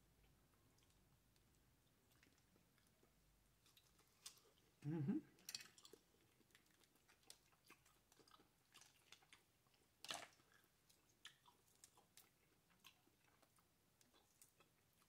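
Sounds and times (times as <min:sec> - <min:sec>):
quiet chewing: 0:00.2 - 0:15.0.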